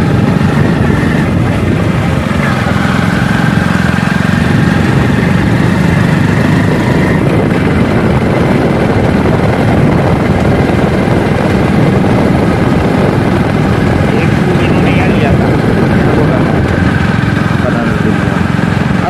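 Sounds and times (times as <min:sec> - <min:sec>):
motorcycle riding: 0:00.0 - 0:19.0
wind buffeting microphone: 0:00.0 - 0:19.0.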